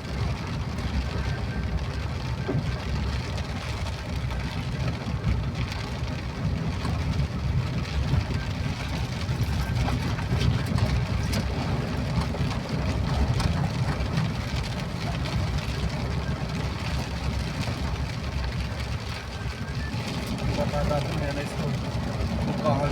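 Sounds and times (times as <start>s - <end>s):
rain falling: 0.0s - 22.9s
vehicle engine and road noise: 0.0s - 22.9s.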